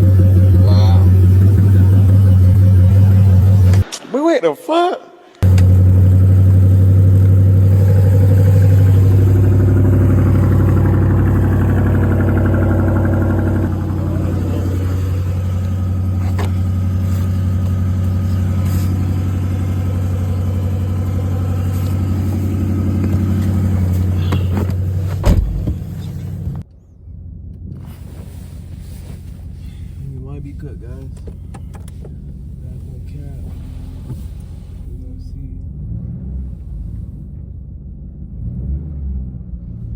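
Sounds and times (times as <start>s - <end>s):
car engine droning: 0.0s - 3.9s, 5.4s - 39.9s.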